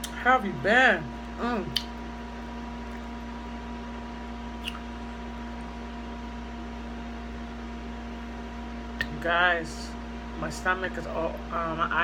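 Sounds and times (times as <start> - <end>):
constant electrical hum: 0.0 - 12.0.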